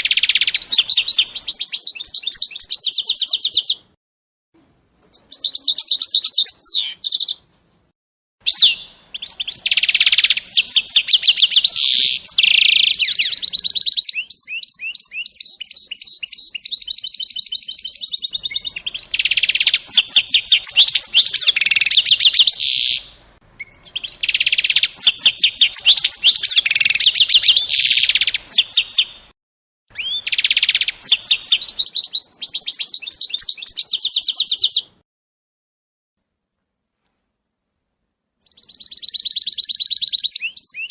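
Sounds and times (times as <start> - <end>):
songbird trilling and chirping: 0.0 - 3.9, 5.0 - 7.4, 8.5 - 29.2, 29.9 - 35.0, 38.4 - 40.9.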